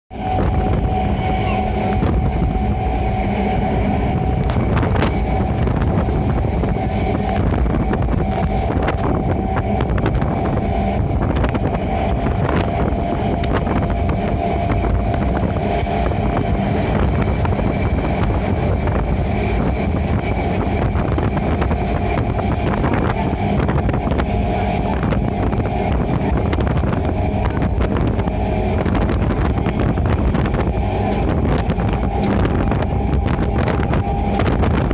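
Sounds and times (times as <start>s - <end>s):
train wheels rumbling on track: 0.1s - 34.9s
wind buffeting microphone: 0.1s - 34.9s.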